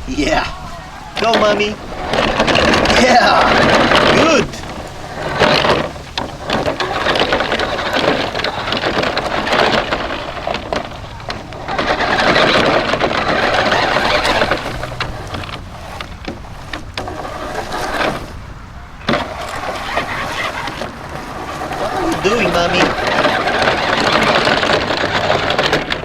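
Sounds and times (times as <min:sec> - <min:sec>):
toy truck motor rattling: 0:01.2 - 0:26.0.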